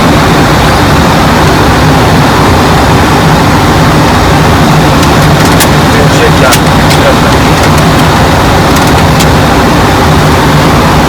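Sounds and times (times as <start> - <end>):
low engine hum: 0.0 - 11.0
rush of air in cockpit: 0.0 - 11.0.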